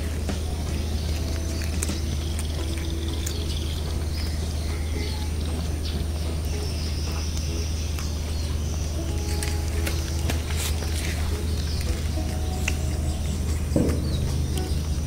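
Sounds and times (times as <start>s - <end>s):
cat chewing dry biscuits: 0.0s - 15.0s
low hum: 0.0s - 15.0s.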